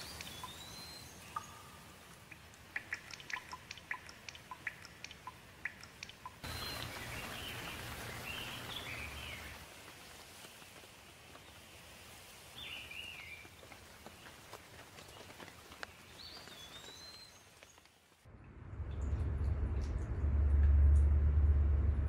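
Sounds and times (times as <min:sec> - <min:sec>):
birds chirping: 0:00.0 - 0:18.1
rain pattering: 0:00.0 - 0:21.3.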